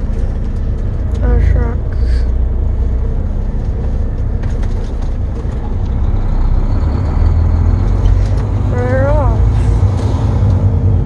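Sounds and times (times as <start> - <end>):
road noise inside cab: 0.0 - 11.0
truck diesel engine rumble: 0.0 - 11.0.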